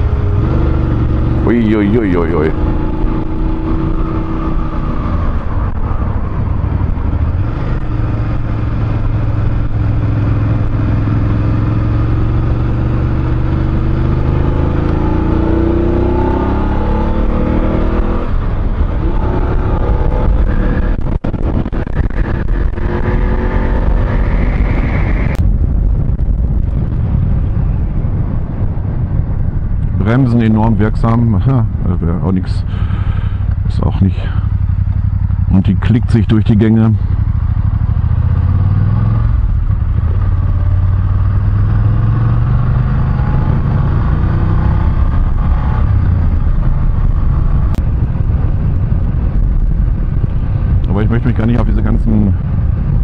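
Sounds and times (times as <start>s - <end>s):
motorcycle engine accelerating: 0.0s - 53.0s
wind rush: 0.0s - 53.0s.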